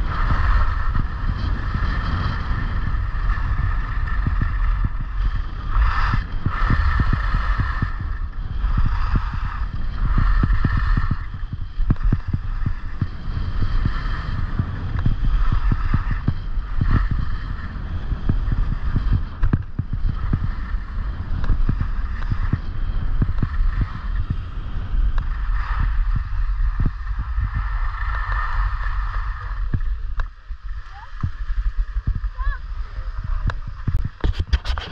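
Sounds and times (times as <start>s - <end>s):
skis scraping on snow: 0.0s - 34.9s
wind buffeting microphone: 0.0s - 34.9s.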